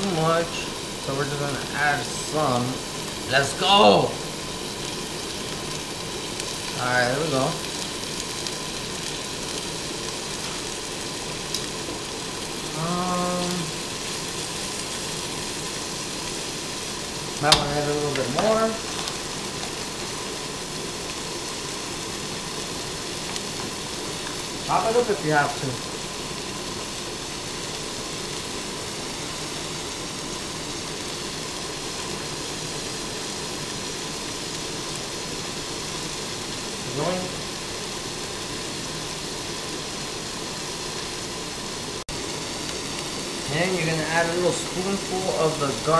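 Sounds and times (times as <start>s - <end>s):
noodles sizzling in a wok: 0.0s - 45.9s.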